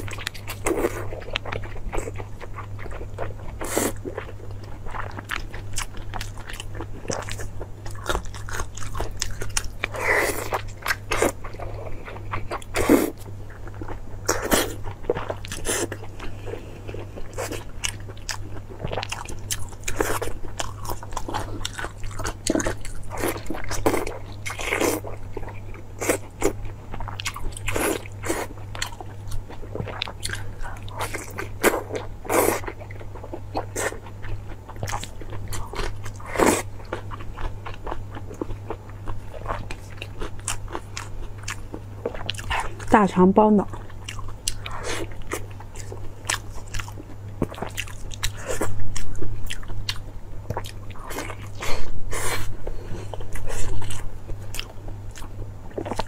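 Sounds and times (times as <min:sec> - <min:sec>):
person chewing with wet smacks: 0:00.0 - 0:56.0.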